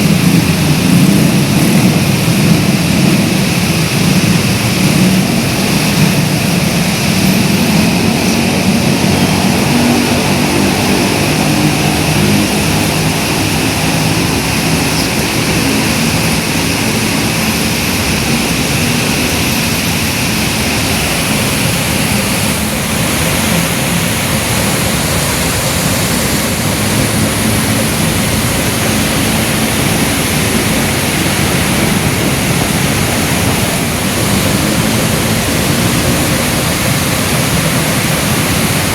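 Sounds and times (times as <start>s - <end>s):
heavy rain hissing: 0.0s - 38.9s
low hum of vehicle engines: 0.0s - 38.9s.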